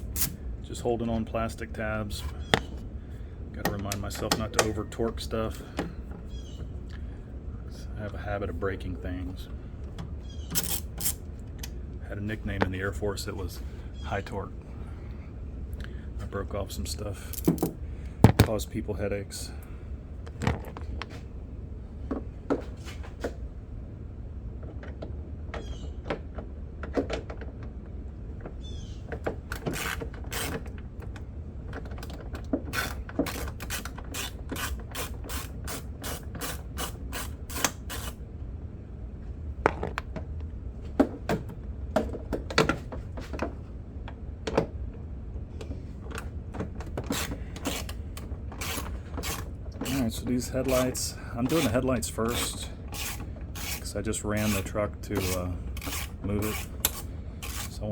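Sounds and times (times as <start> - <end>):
steady low hum: 0.0 - 25.5, 27.6 - 57.9.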